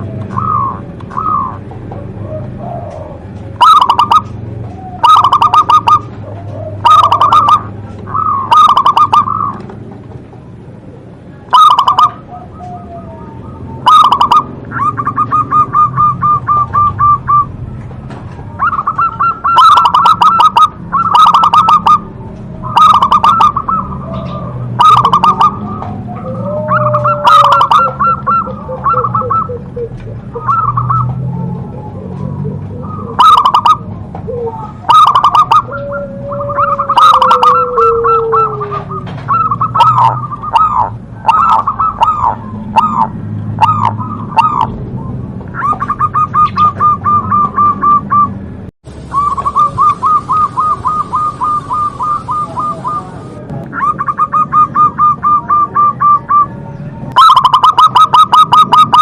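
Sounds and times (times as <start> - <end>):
dove cooing: 0.0 - 10.0, 10.8 - 48.4, 49.0 - 59.0.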